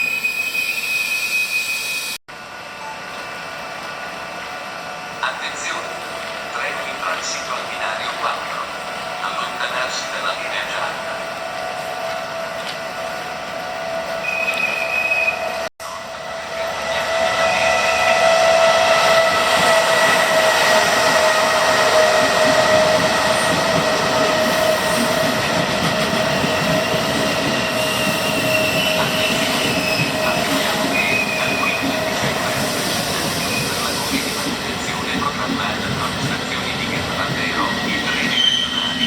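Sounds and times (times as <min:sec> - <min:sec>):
electric train wheels rumbling on rail: 0:00.0 - 0:39.0
high whining train tones: 0:00.0 - 0:39.0.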